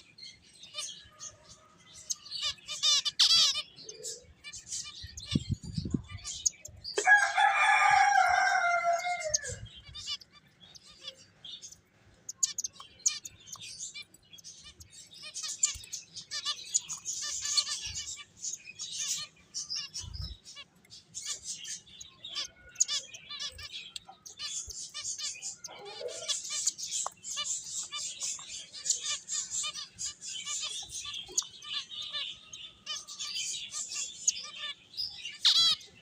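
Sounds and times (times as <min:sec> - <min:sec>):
finches chirping: 0:00.0 - 0:36.0.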